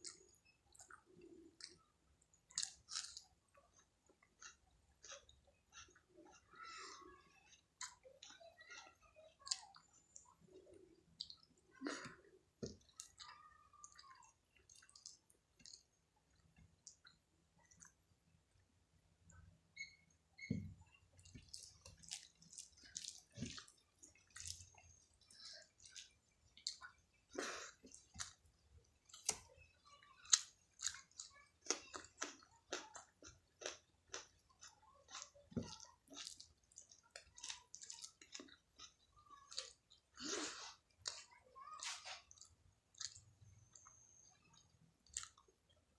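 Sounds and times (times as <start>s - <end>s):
person chewing food: 0.0s - 18.1s, 19.3s - 45.9s.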